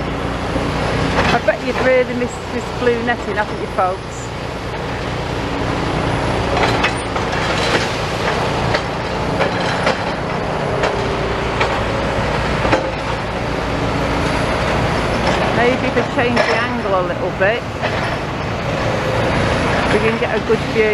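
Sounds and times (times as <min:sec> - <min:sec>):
heavy road traffic rumble: 0:00.0 - 0:20.9.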